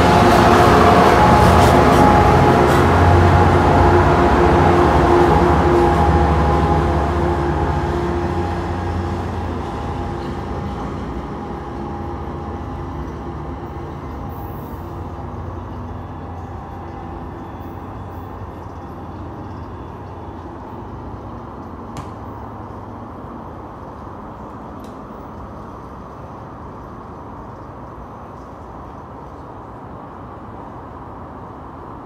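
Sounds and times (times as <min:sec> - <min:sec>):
passenger train rumbling: 0:00.0 - 0:32.0.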